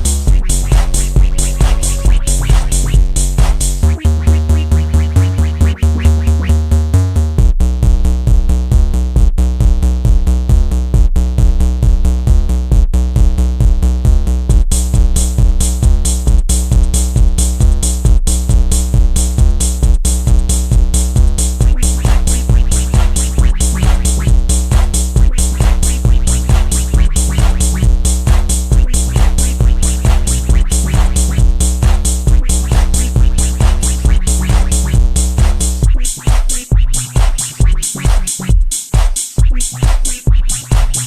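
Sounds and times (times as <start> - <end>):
electronic music with drum beat: 0.0 - 41.0.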